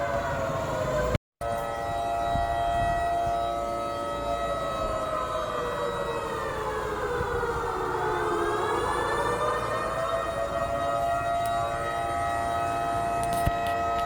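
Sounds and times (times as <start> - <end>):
civil defence siren wailing: 0.0 - 14.0.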